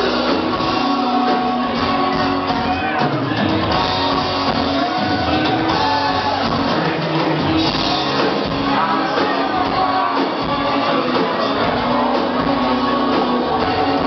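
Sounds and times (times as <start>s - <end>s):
band accompaniment: 0.0s - 14.0s
man singing into a microphone: 0.0s - 14.0s.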